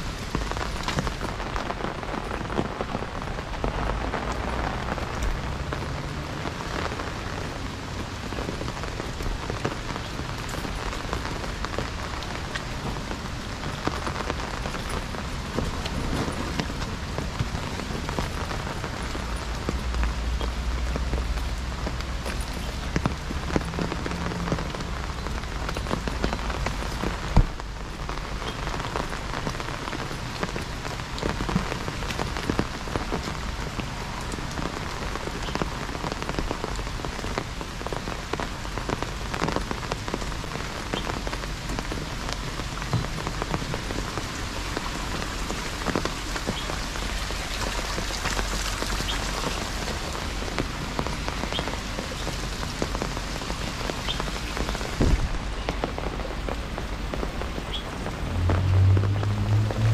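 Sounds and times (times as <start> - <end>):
heavy rain on leaves: 0.0 - 59.9
raindrops tapping an umbrella: 0.0 - 59.9.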